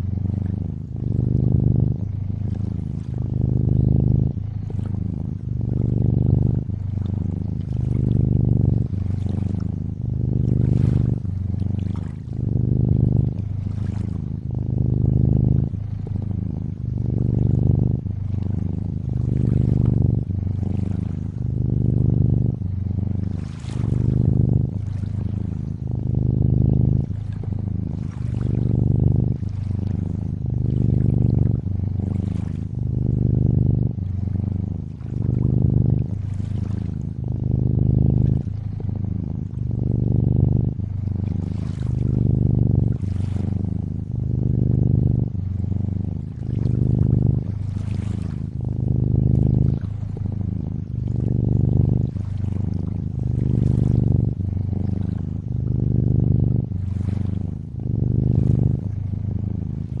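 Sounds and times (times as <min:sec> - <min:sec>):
lake water lapping: 0:00.0 - 0:40.0, 0:41.0 - 0:58.9
cat purring: 0:00.0 - 1:00.0.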